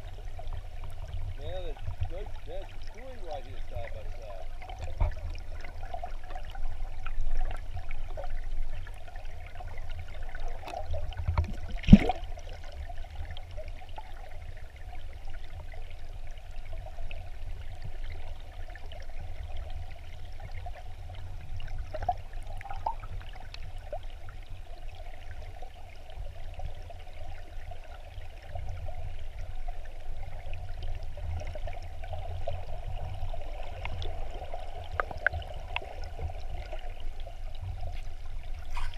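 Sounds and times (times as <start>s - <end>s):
stream water flowing over gravel: 0.0s - 38.9s.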